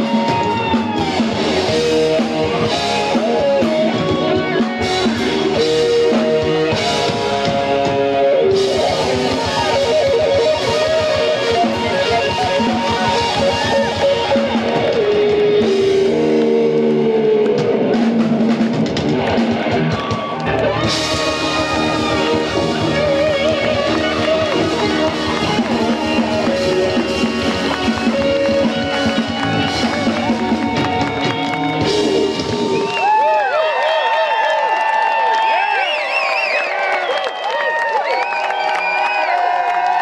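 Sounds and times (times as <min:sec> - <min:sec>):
drum kit: 0:00.0 - 0:33.4
electric guitars: 0:00.0 - 0:33.6
keyboards: 0:00.0 - 0:34.1.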